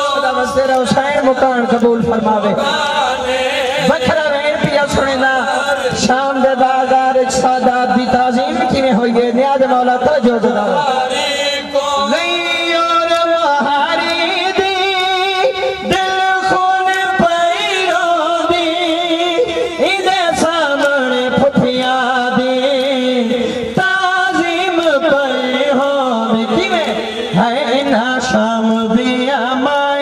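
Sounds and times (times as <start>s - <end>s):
men chanting a lament: 0.0s - 30.0s.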